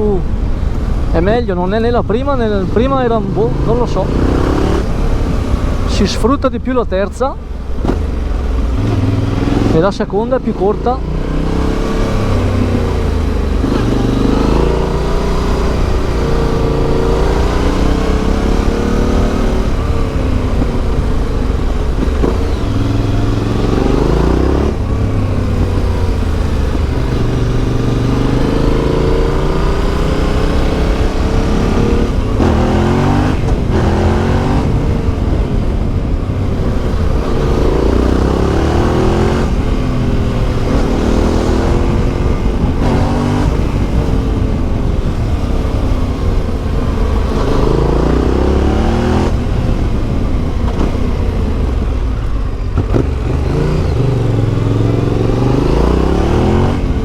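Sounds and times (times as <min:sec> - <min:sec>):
motorcycle engine revving: 0:01.8 - 0:06.4, 0:07.4 - 0:57.0.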